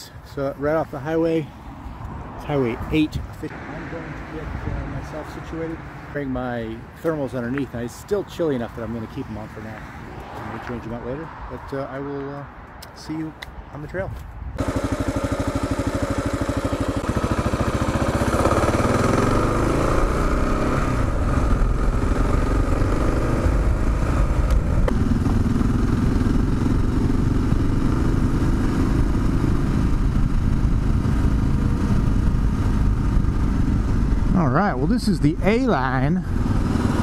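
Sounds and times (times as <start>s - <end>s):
motorcycle engine idling and revving: 1.8s - 12.4s, 14.6s - 37.0s.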